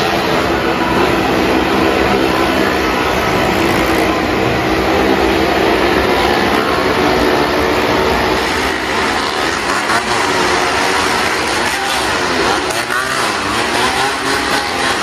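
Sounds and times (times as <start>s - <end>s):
car and motorcycle engines droning: 0.0s - 15.0s.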